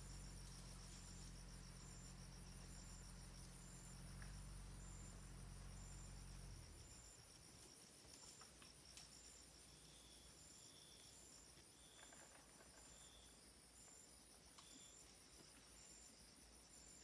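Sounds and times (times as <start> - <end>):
high-pitched insect trill: 0.0 - 17.0
insect chirps: 0.0 - 17.0.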